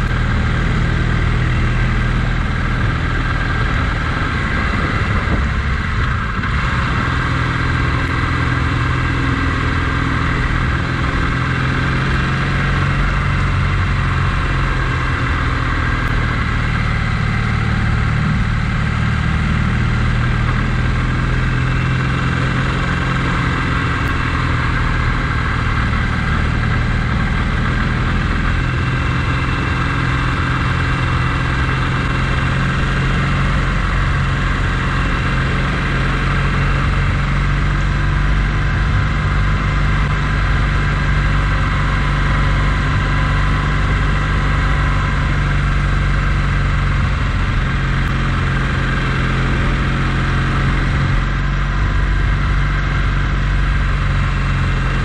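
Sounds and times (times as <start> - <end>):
road and wind noise hiss: 0.0 - 55.0
vehicle engine running: 0.0 - 55.0.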